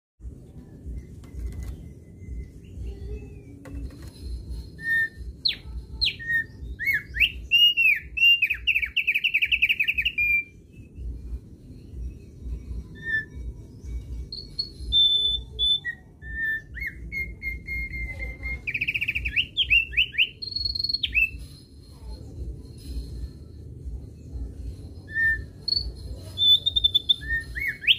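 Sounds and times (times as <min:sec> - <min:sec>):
bird singing whistled trills: 0:00.9 - 0:27.9.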